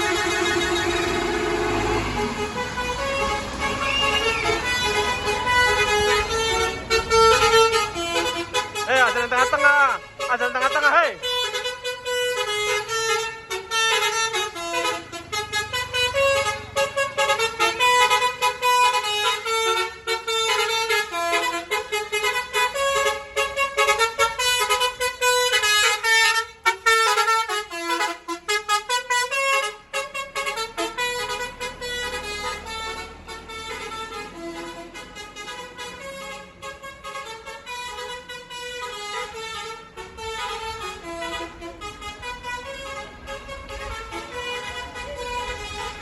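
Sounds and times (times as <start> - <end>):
multi-tone air horn tune: 0.0 - 46.0.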